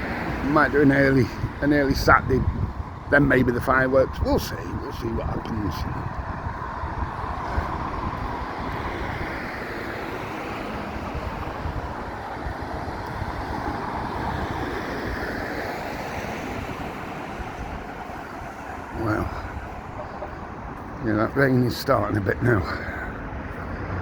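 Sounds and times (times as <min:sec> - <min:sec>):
wind on microphone: 0:00.0 - 0:21.4
traffic on a wet road: 0:00.0 - 0:24.0.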